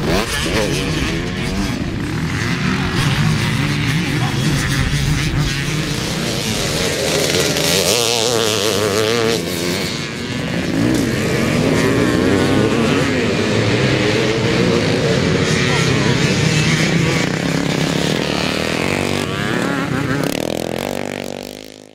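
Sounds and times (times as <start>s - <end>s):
motocross bike engines revving: 0.0s - 21.9s.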